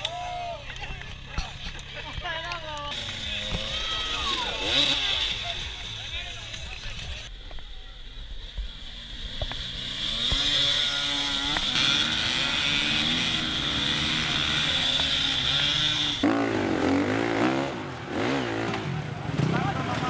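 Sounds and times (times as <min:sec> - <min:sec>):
dirt bike engine revving: 0:01.0 - 0:07.3, 0:08.6 - 0:20.0.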